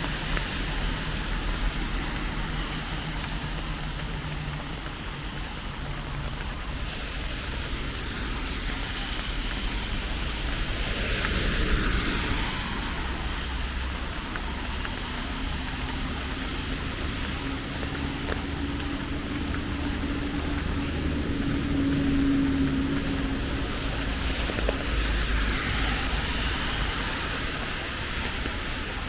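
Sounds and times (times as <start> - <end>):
low traffic rumble: 0.0 - 29.0
steady rain hiss: 0.0 - 29.0.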